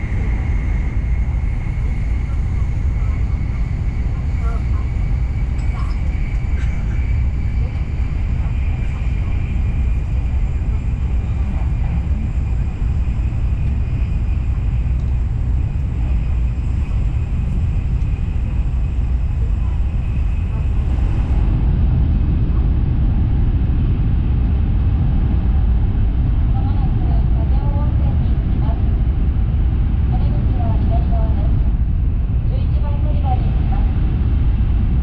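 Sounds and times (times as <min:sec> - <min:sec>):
train cabin rumble with hiss: 0:00.0 - 0:35.0.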